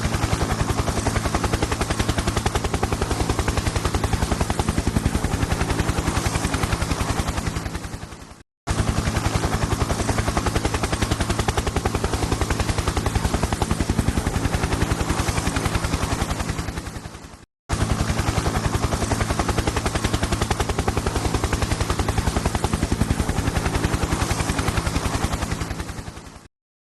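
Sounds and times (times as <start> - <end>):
helicopter rotor chop: 0.0 - 26.5.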